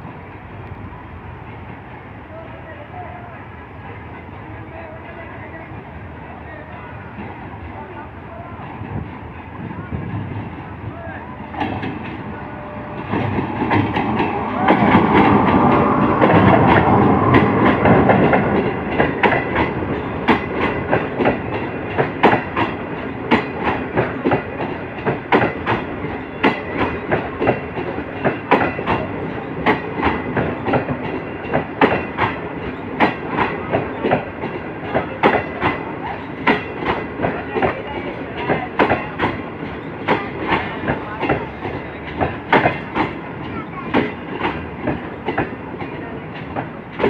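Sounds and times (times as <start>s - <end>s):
train rumbling past: 0.0s - 47.0s
train wheels clickety-clack: 6.6s - 47.0s.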